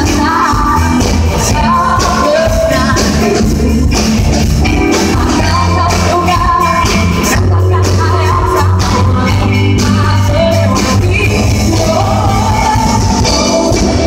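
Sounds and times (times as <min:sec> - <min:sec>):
female lead vocals: 0:00.0 - 0:14.0
live pop-rock band: 0:00.0 - 0:14.0.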